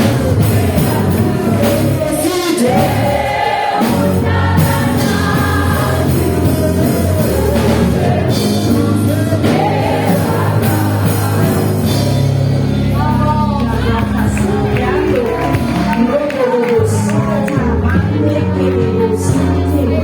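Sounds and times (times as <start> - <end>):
singers with band: 0.0 - 20.0.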